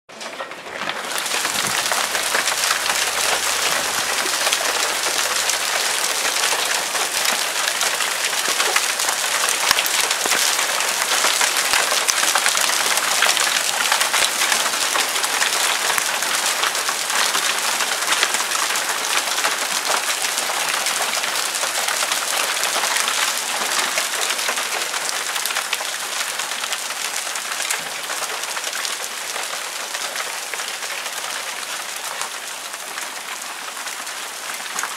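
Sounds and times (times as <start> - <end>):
hail clattering on paving: 0.1 - 34.9.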